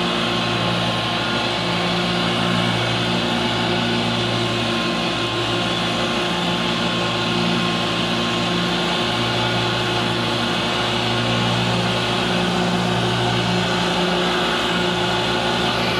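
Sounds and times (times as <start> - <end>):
rotary mower cutting grass: 0.0 - 15.9
tractor engine running: 0.0 - 15.9.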